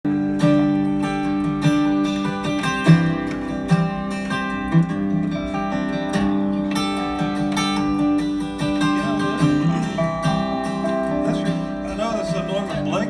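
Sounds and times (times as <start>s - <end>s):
plucked string instruments: 0.0s - 13.0s
strummed acoustic guitar: 0.0s - 13.0s.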